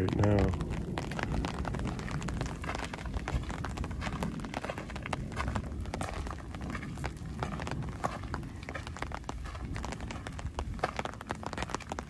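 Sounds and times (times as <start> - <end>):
footsteps crunching on gravel: 0.0 - 12.0
steady low rumble: 0.0 - 12.0.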